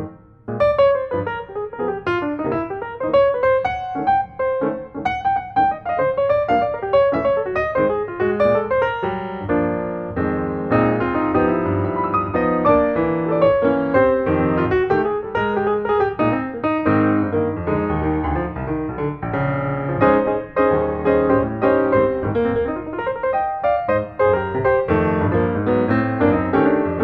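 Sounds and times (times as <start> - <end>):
piano music: 0.0 - 27.0.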